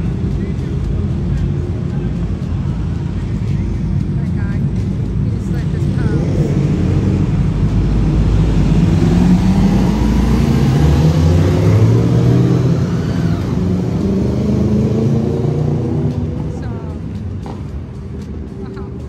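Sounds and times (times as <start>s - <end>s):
vehicle engine accelerating: 0.0s - 19.0s.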